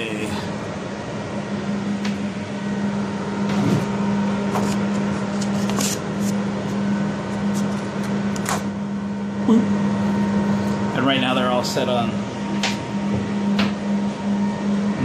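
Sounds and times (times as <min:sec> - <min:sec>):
roof vent fans humming: 0:00.0 - 0:15.0.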